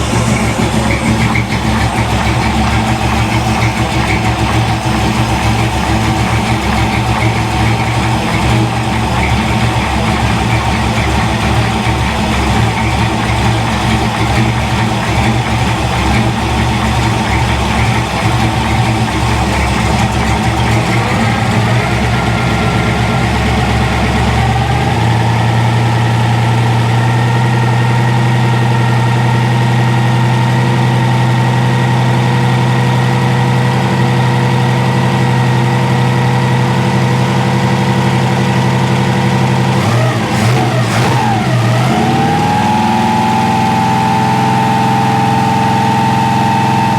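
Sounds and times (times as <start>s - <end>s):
car engine revving: 0.0s - 30.6s, 34.4s - 46.9s.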